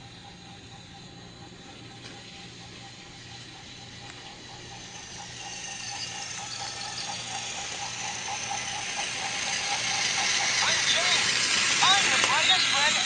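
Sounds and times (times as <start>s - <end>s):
motorised toy train running: 0.0s - 13.0s.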